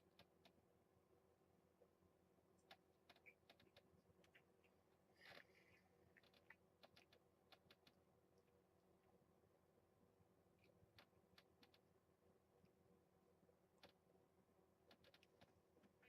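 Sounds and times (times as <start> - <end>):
faint small clicks and ticks: 0.0 - 0.9, 1.6 - 16.0.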